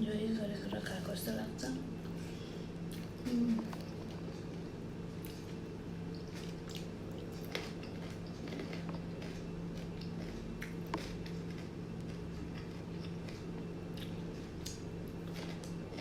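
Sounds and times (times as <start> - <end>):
wet chewing: 2.9 - 16.0.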